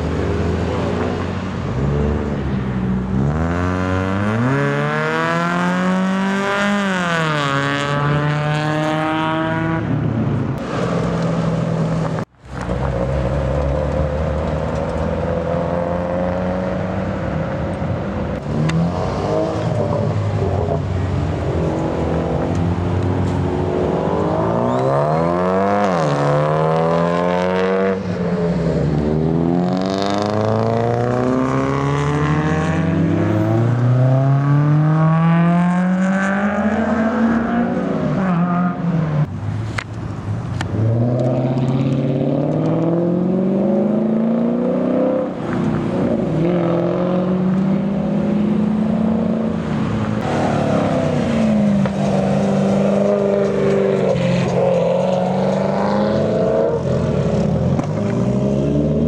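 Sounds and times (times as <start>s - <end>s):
car engines accelerating: 0.0s - 59.0s.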